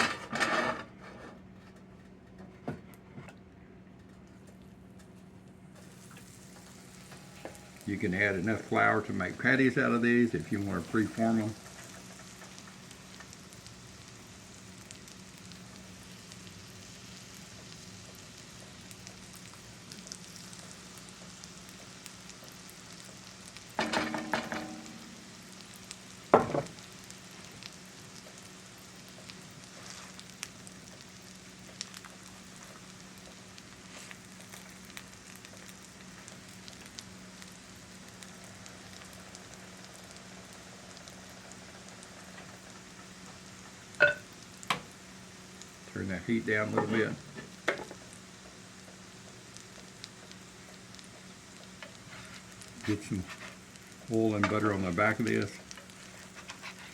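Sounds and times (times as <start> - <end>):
pancakes sizzling in oil: 4.4 - 56.9.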